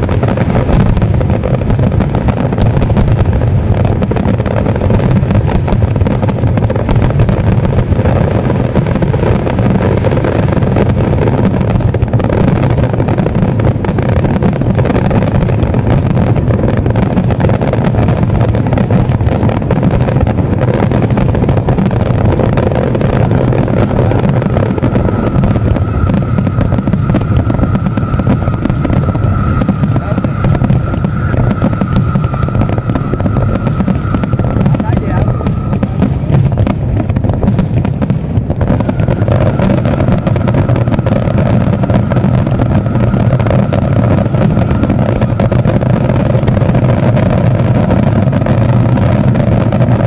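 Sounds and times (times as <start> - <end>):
fireworks bursting and crackling: 0.0 - 50.0.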